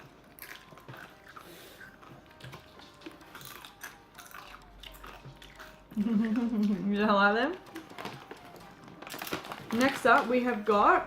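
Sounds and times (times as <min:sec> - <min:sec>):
chewing crunchy chips: 0:00.0 - 0:10.0.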